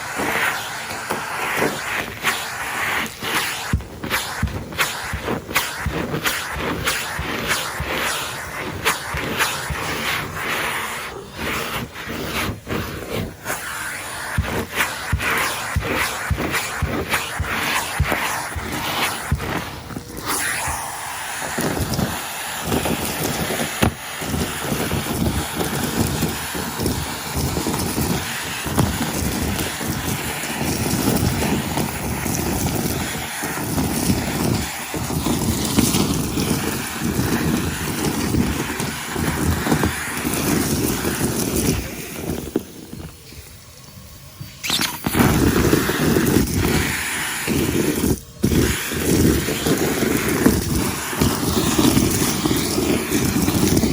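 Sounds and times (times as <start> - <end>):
vacuum cleaner sucking debris: 0.0 - 53.9.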